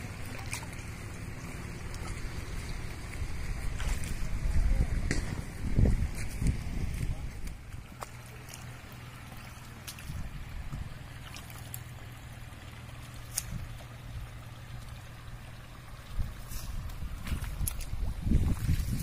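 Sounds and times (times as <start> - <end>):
diesel engine running: 0.0 - 19.0
water and mud sloshing: 0.0 - 19.0.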